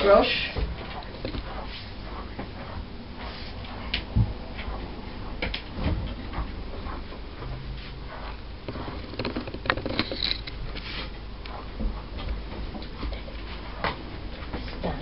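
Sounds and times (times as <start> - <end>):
dog brushed on rubber mat: 0.0 - 15.0.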